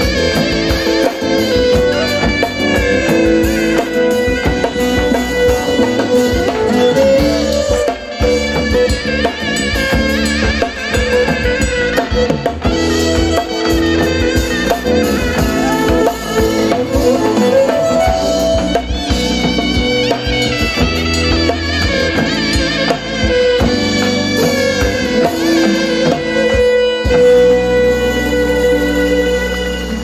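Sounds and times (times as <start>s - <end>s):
bowed fiddle: 0.0s - 30.0s
drum kit: 0.0s - 30.0s
zurna melody: 0.0s - 30.0s.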